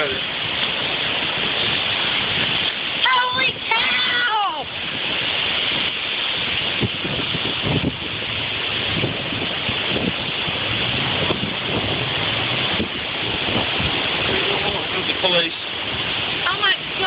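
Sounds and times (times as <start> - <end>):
rain: 0.0 - 17.0
storm wind roaring: 0.0 - 17.0
wind gusts thumping on microphone: 0.0 - 17.0.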